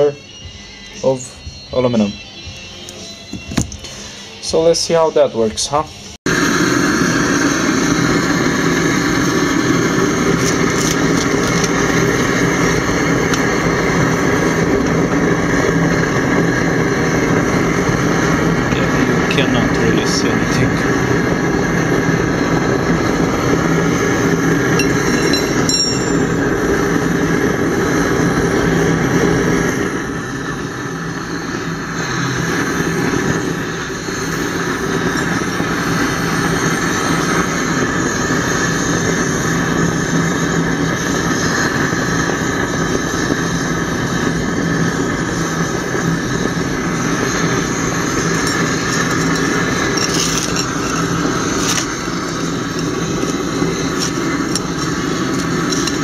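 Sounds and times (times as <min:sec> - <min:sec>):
gas burner roaring: 0:00.0 - 0:56.0.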